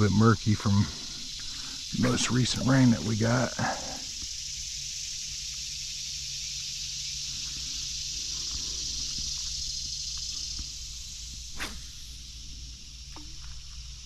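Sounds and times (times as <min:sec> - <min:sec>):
insects chirring: 0:00.0 - 0:14.0
small ticks: 0:00.6 - 0:02.7, 0:03.5 - 0:14.0.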